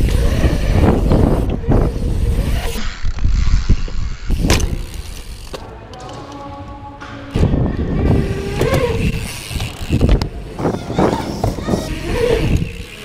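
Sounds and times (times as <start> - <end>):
wind on microphone: 0.0 - 4.9, 7.3 - 13.0
bike tyres rolling on concrete: 0.0 - 5.8, 7.6 - 13.0.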